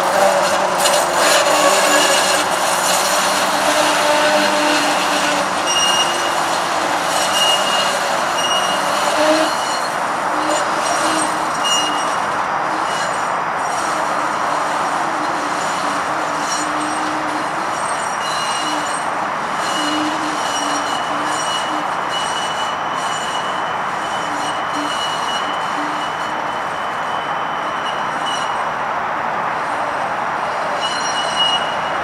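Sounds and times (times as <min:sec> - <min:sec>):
high wheel squeal: 0:00.0 - 0:32.0
streetcar wheels rumbling on rail: 0:00.0 - 0:32.0.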